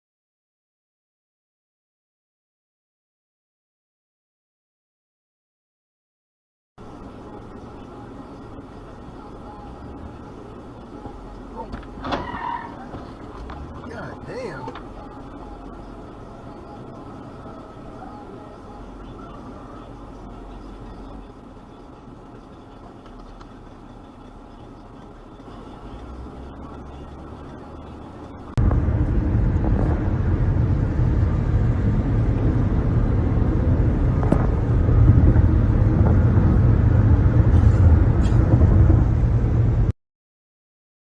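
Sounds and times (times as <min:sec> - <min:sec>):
car road noise rumble: 0:06.8 - 0:39.9.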